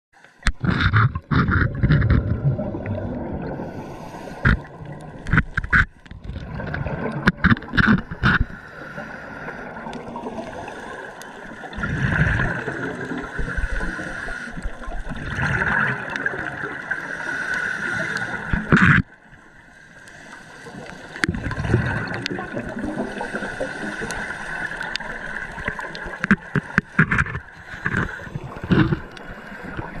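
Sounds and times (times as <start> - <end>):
underwater gurgling and bubbles: 0.2 - 30.0.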